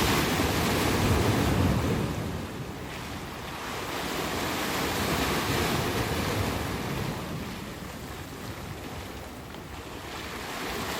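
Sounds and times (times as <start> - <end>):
sea waves washing: 0.0 - 10.9.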